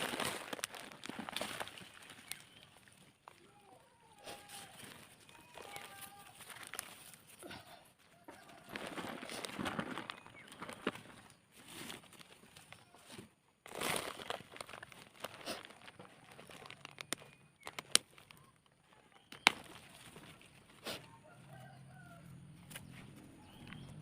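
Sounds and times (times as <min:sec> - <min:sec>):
plastic bag rustling: 0:00.0 - 0:03.4, 0:04.2 - 0:07.6, 0:08.3 - 0:20.9.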